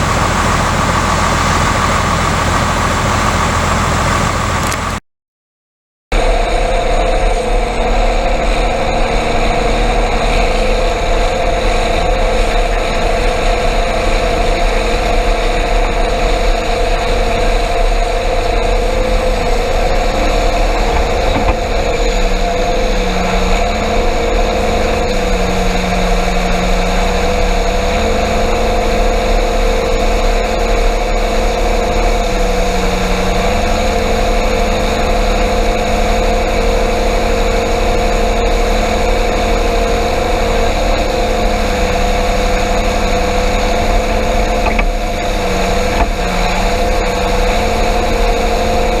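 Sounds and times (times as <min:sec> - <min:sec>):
combine harvester engine drone: 0:00.0 - 0:05.0, 0:06.2 - 0:49.0
constant machinery whine: 0:00.0 - 0:05.0, 0:06.2 - 0:49.0.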